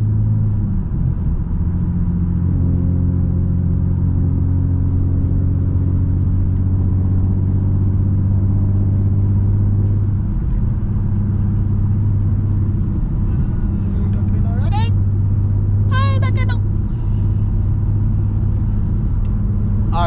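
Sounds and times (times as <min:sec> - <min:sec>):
car engine and exhaust drone: 0:00.0 - 0:20.0.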